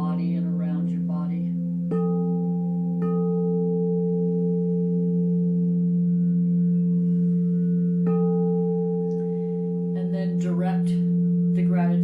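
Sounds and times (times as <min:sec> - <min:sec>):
bowl struck: 0:00.0 - 0:12.0
singing bowls ringing: 0:00.0 - 0:12.0.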